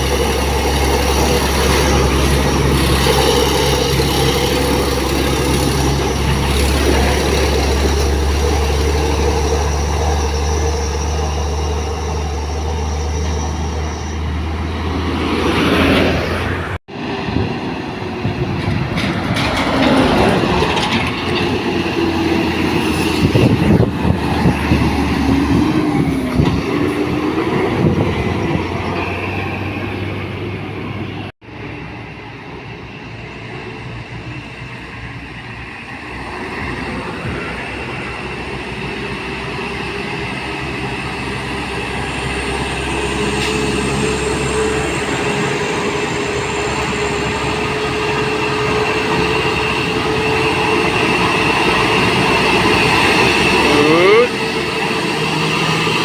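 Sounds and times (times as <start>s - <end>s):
truck diesel engine labouring: 0.0s - 56.0s.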